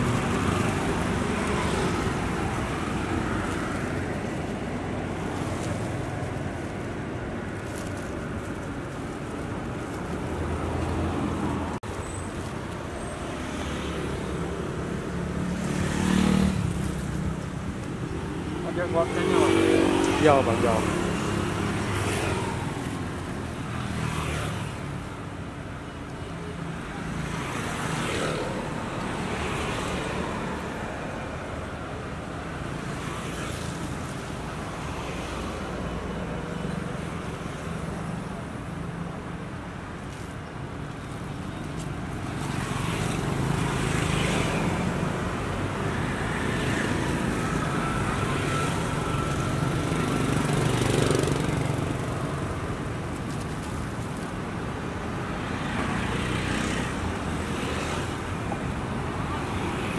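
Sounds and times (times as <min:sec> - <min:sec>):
street traffic passing: 0:00.0 - 0:59.9.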